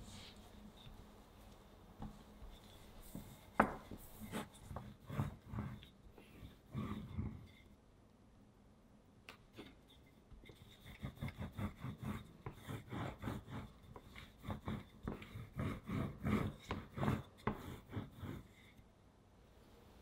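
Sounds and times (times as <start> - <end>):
rolling pin rubbing over dough: 0.0 - 7.8, 9.6 - 18.8.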